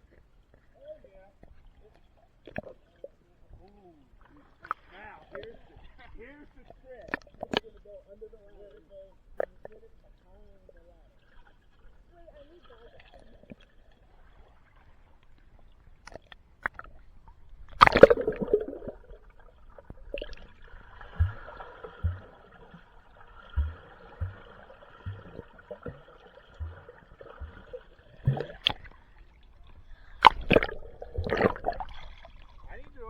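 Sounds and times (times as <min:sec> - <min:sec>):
pool water splashing and gurgling: 0:00.0 - 0:33.0.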